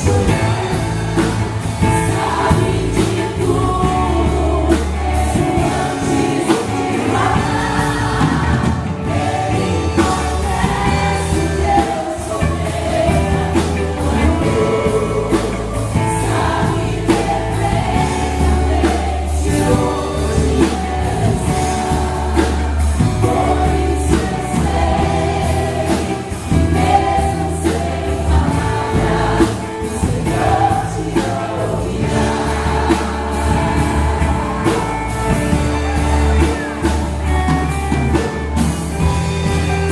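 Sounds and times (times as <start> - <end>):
band with bass and drums: 0.0 - 39.9
choir singing: 0.0 - 39.9.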